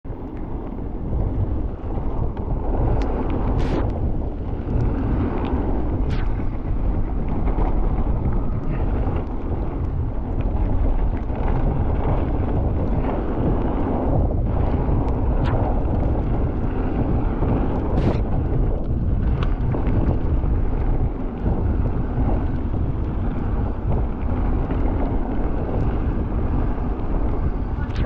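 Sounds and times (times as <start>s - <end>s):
low rumble of tyres: 0.0s - 28.0s
wind buffeting microphone: 0.0s - 28.0s.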